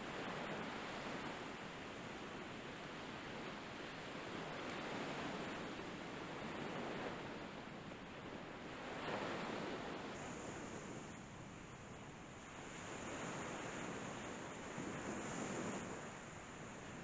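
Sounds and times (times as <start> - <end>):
sea waves breaking: 3.0 - 17.0.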